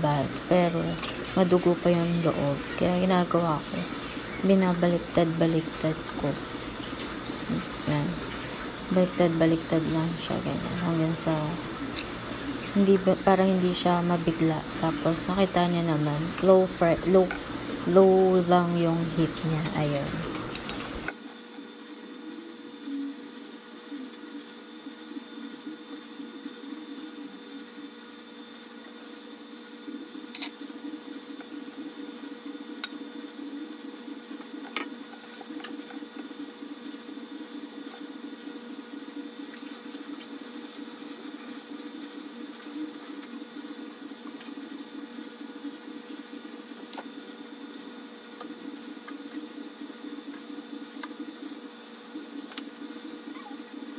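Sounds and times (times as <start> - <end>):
chicken sizzling in oil: 0.0 - 53.9.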